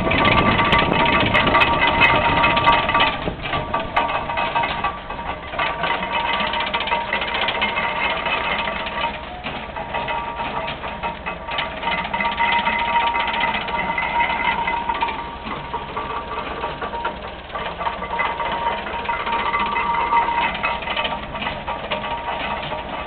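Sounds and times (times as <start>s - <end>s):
constant whine: 0.0s - 23.0s
hay press clattering: 0.0s - 23.0s
tractor engine running: 0.0s - 23.0s.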